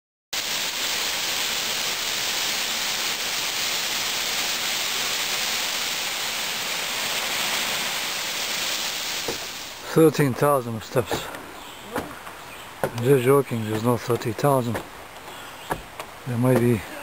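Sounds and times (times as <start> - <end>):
waterfall rushing: 0.4 - 17.0.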